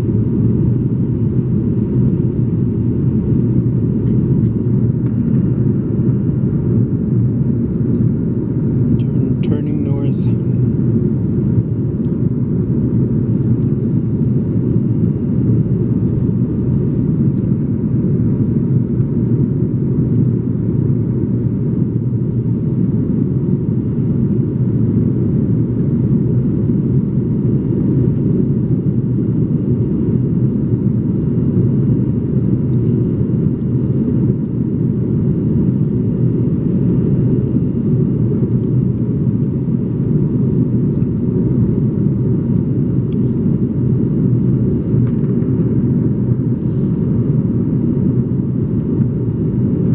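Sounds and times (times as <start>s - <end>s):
jet engine rumble: 0.0s - 49.9s.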